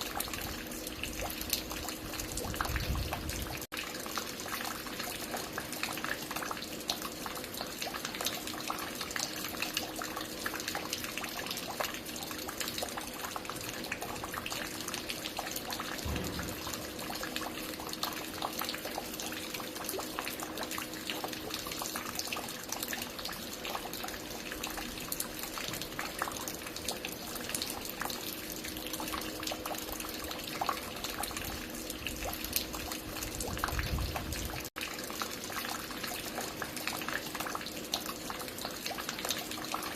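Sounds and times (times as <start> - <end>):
water dripping and splashing: 0.0 - 39.9.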